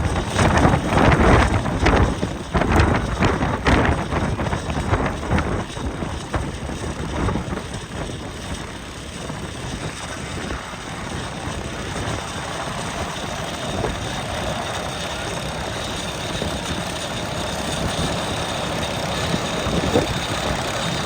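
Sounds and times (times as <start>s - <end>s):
propeller wash buffeting microphone: 0.0s - 21.0s
turboprop engine running: 0.0s - 21.0s.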